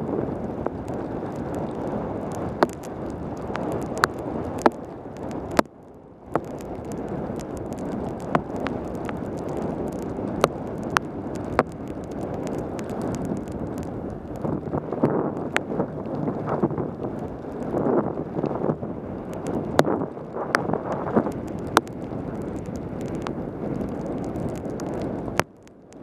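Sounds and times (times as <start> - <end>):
bike tyres on wet road: 0.0 - 26.0
rain: 0.0 - 26.0
wind rushing over camera: 0.0 - 26.0.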